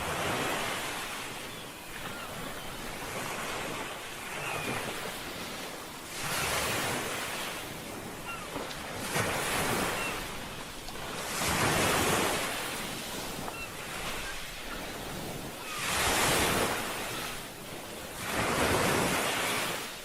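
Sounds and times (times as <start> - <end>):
ocean waves breaking: 0.0 - 20.0
wind: 0.0 - 20.0.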